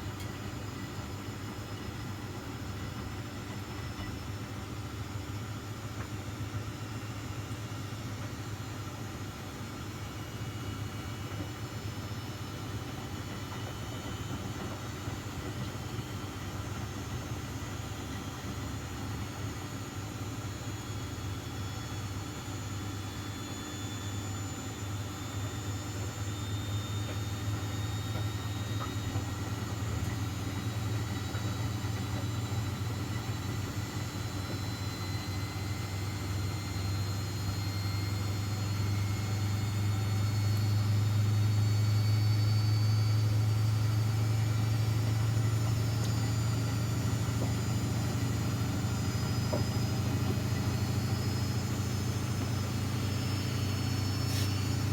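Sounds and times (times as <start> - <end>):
faint high motor whines: 0.0 - 54.9
washing machines humming: 0.0 - 54.9.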